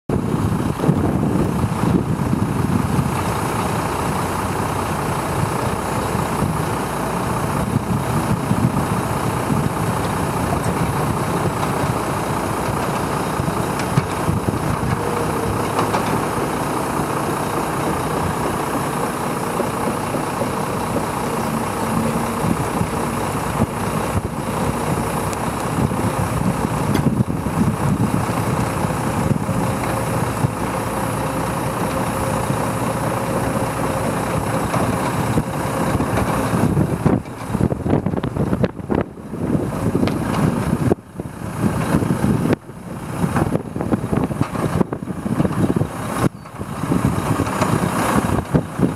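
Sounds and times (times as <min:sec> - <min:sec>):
excavator diesel engine running: 0:00.1 - 0:48.9.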